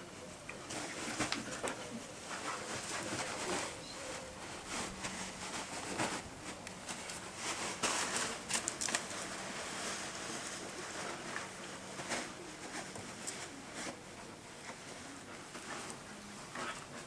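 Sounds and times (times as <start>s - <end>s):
dogs scuffling and snuffling: 0.4s - 17.0s.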